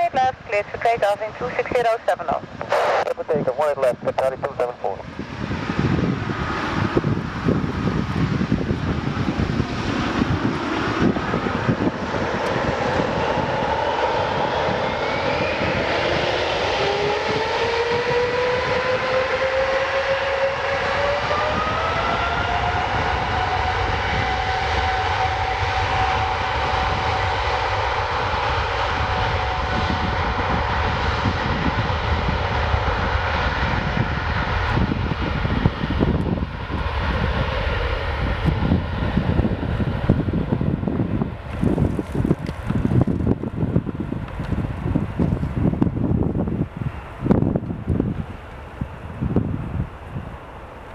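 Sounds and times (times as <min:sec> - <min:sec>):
heavy low rumble: 0:00.0 - 0:19.4, 0:20.3 - 0:50.9
jet engine whine rising: 0:00.0 - 0:50.9.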